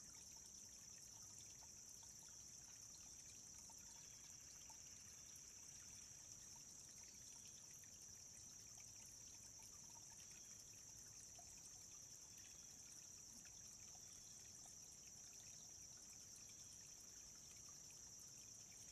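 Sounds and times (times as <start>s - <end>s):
stream trickling: 0.0s - 18.9s
water splashes and drips: 0.0s - 18.9s.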